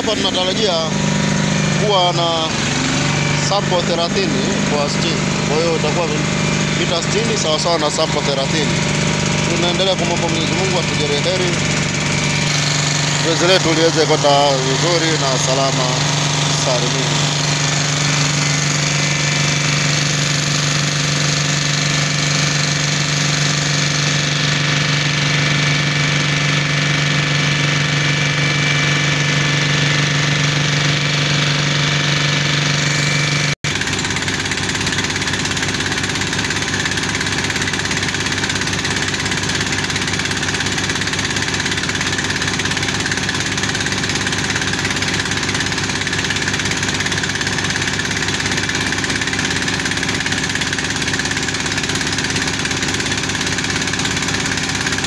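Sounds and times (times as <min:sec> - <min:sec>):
drilling rig engine: 0:00.0 - 0:55.0.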